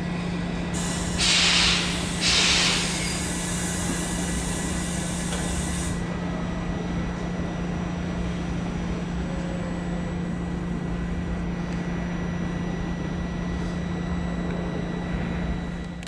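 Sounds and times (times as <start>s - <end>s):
train electric hum and whine: 0.0s - 16.0s.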